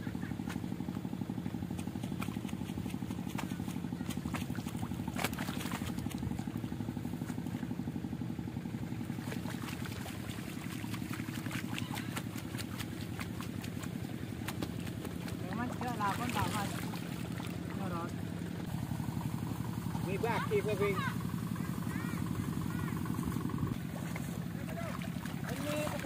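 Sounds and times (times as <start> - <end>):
small engine running: 0.0 - 26.0
splashing and squelching in mud: 0.0 - 26.0.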